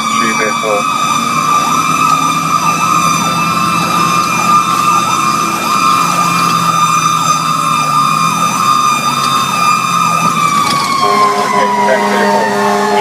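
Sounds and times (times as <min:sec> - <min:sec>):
electronic siren yelping: 0:00.0 - 0:13.0
steady high siren tone: 0:00.0 - 0:13.0
truck engine running: 0:00.0 - 0:13.0.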